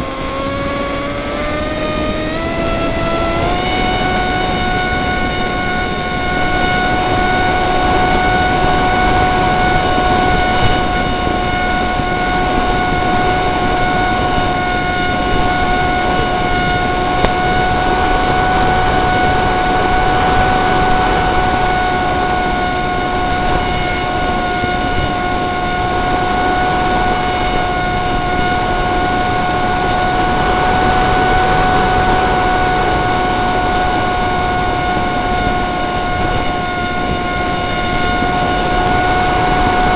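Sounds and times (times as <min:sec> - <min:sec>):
electric motor and propeller whine: 0:00.0 - 0:39.9
wind buffeting on microphone: 0:00.0 - 0:39.9.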